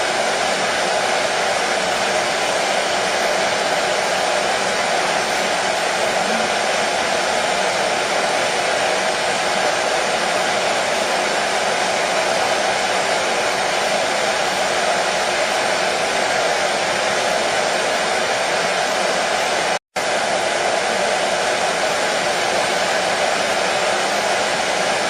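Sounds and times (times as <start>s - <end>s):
hair dryer running: 0.0s - 25.0s.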